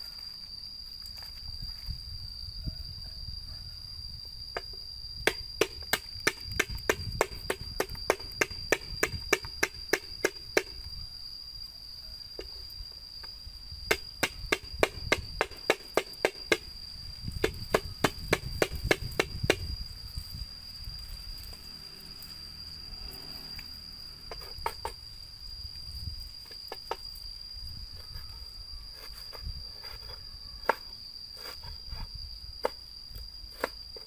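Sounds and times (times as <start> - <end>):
high insect trill: 0.0 - 34.0.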